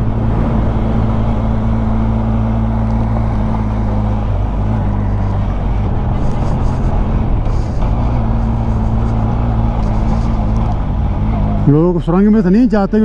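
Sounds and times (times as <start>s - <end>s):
motorcycle engine under load: 0.0s - 11.9s
wind and road noise: 0.0s - 13.0s.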